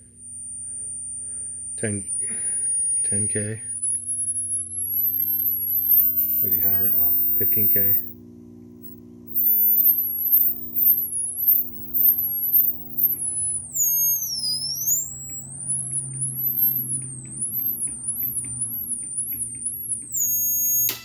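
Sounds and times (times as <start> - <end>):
high-pitched transformer whine: 0.0 - 21.0
low mains hum: 0.0 - 21.0.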